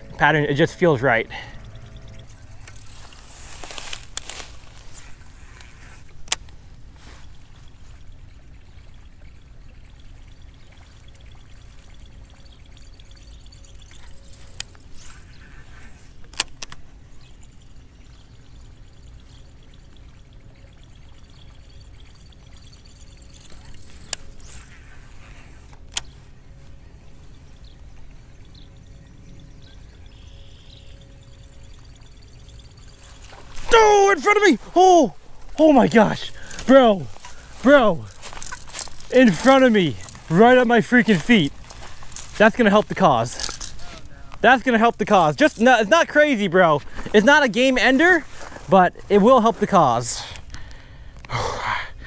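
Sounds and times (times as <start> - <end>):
fishing reel clicks: 0.0 - 51.4.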